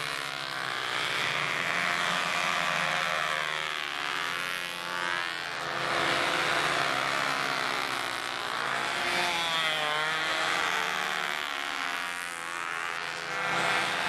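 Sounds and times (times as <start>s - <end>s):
model plane engines buzzing: 0.0s - 14.0s.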